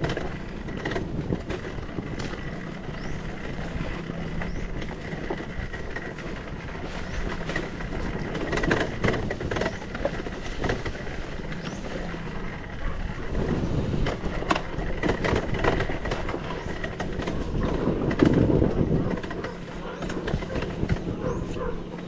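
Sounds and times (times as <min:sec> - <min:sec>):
dirt bike engine running: 0:00.0 - 0:22.0
knocks and rattles: 0:00.0 - 0:22.0.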